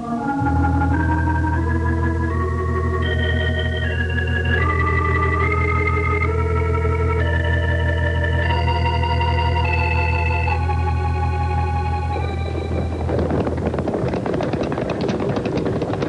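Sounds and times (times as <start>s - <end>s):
organ chords: 0.0s - 15.9s
sustained low bass note: 0.4s - 14.1s.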